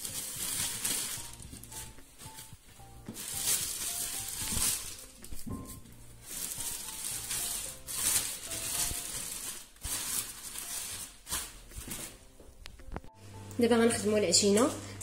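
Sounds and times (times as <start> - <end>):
plastic bags crinkling: 0.0 - 13.1.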